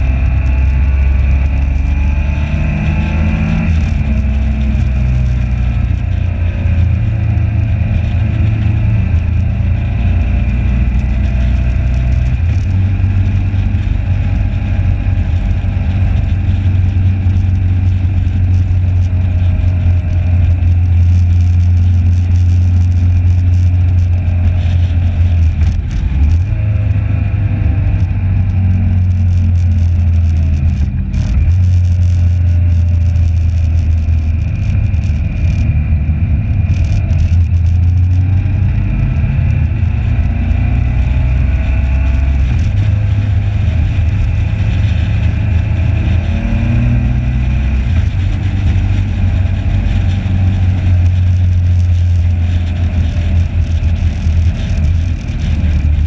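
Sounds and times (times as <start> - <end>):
motorcycle engine droning: 0.0 - 56.0
wind noise on microphone: 0.0 - 56.0.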